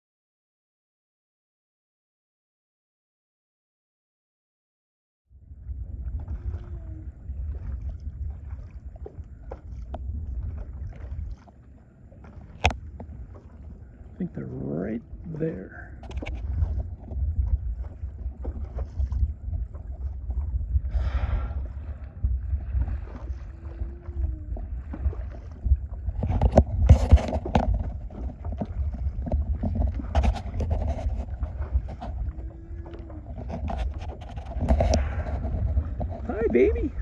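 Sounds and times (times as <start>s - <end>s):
wind rumbling on microphone: 5.3s - 37.0s
water lapping against boat hull: 5.4s - 37.0s.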